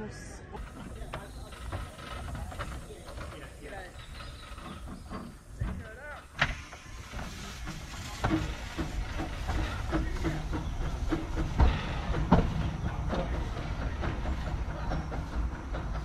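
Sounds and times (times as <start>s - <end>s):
locomotive clanks: 0.5s - 16.0s
steam locomotive beats: 0.6s - 16.0s.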